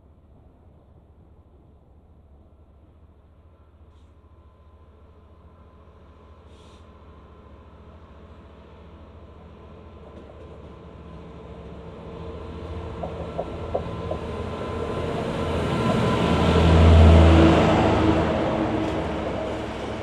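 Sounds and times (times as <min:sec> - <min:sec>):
diesel locomotive engine running: 0:02.8 - 0:20.0.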